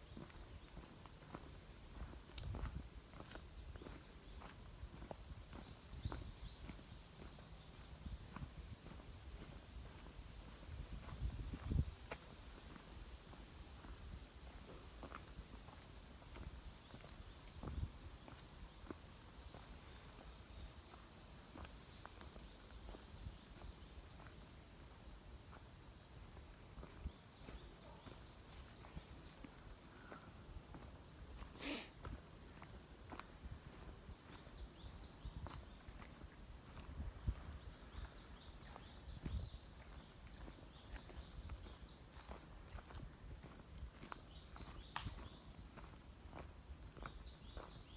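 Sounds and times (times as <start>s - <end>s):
high-pitched insect chorus: 0.0s - 47.9s
footsteps on forest trail: 0.1s - 24.4s, 26.4s - 47.9s.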